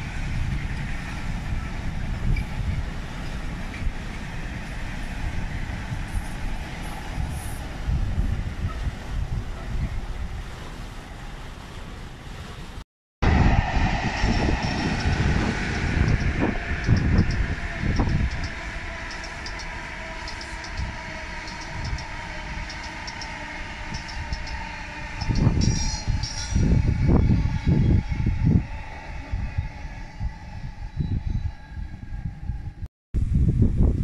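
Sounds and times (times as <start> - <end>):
electric train whine: 0.0 - 9.7, 13.2 - 32.9
freight train passing: 0.0 - 10.7, 13.2 - 32.8.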